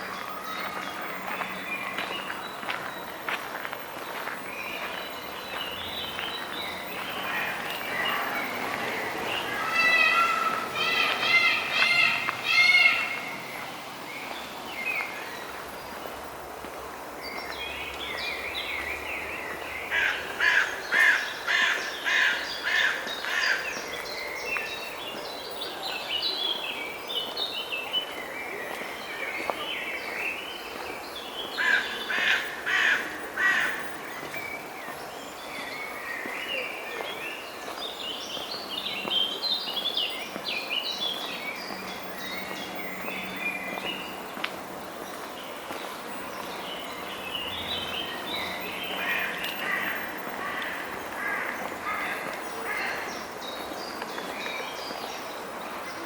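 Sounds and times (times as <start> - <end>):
faint steady background noise: 0.0 - 56.0.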